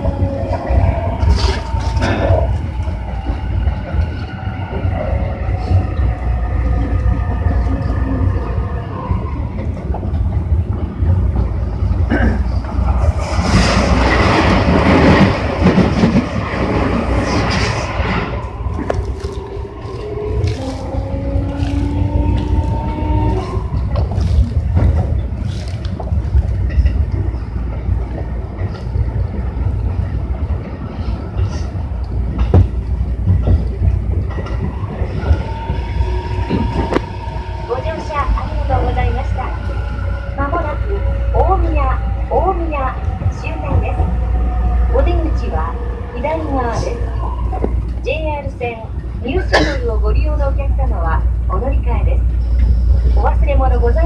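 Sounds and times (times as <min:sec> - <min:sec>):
electric train rumble: 0:00.0 - 0:54.0
rail joint clacks: 0:00.0 - 0:54.0
wheels rattling on track: 0:00.0 - 0:54.0.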